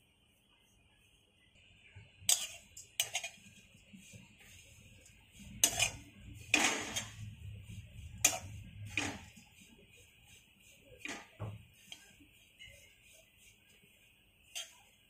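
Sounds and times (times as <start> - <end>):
metal spatula scraping a pan: 2.3 - 15.0.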